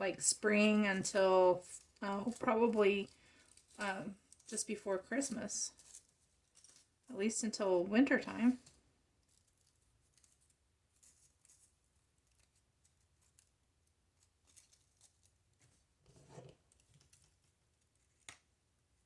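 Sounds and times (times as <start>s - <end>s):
paper rustling: 1.2s - 7.1s, 8.6s - 18.3s.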